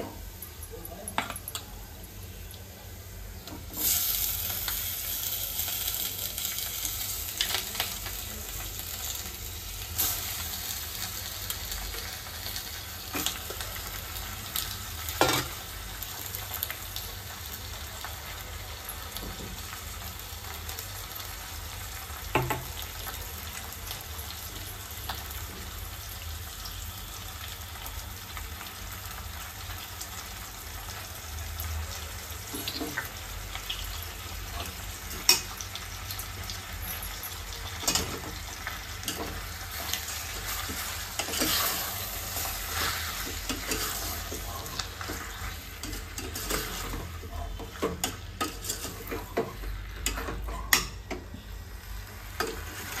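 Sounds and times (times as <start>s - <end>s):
chicken sizzling in pot: 0.0s - 53.0s.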